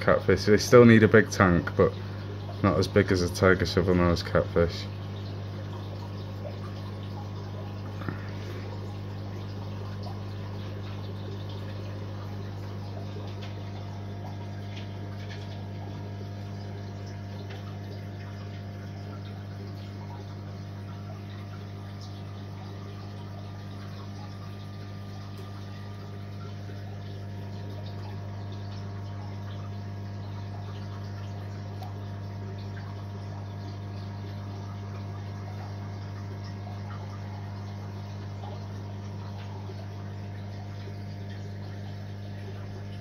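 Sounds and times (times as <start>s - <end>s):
aquarium pump humming: 0.0s - 43.0s
water running and trickling: 0.0s - 43.0s.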